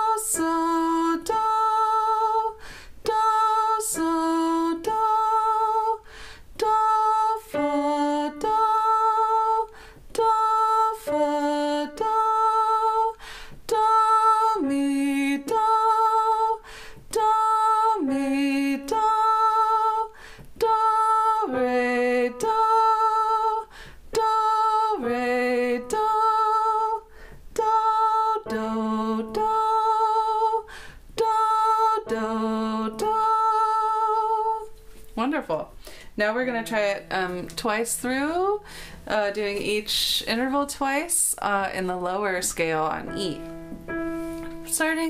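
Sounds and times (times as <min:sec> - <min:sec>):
woman singing solfege: 0:00.0 - 0:43.7.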